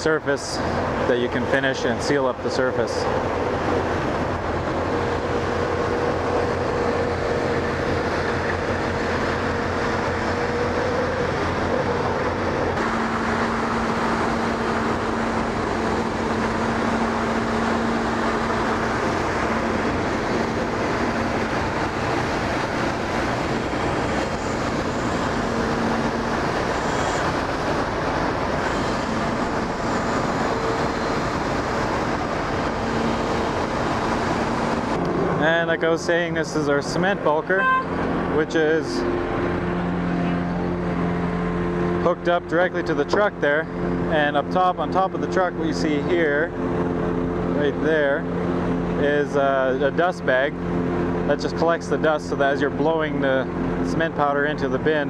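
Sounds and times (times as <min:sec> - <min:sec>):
heavy diesel machinery droning: 0:00.0 - 0:55.0.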